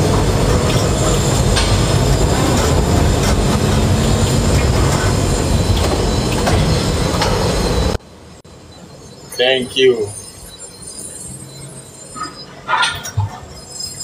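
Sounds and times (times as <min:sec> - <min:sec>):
tower crane rumbling: 0:00.0 - 0:14.0.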